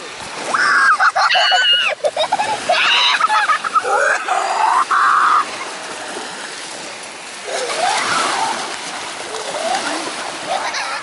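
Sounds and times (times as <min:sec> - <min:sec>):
small waves washing onto sand: 0:00.0 - 0:11.0
splashing in surf: 0:00.0 - 0:11.0.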